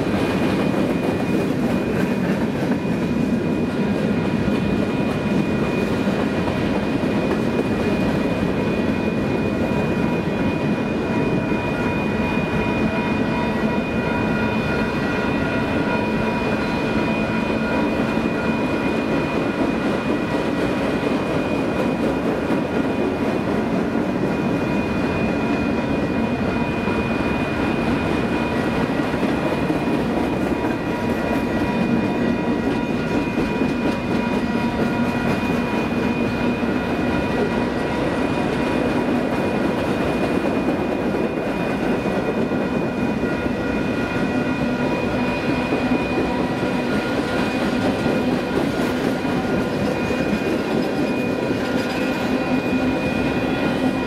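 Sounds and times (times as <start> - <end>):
train wheels rumbling on rail: 0.0 - 54.0
high ringing tones: 7.8 - 54.0.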